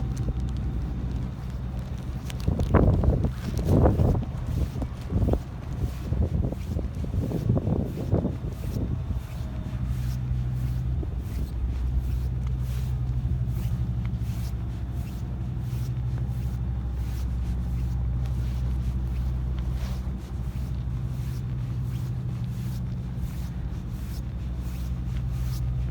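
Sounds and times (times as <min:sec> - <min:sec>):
engine humming steadily: 0:00.0 - 0:25.9.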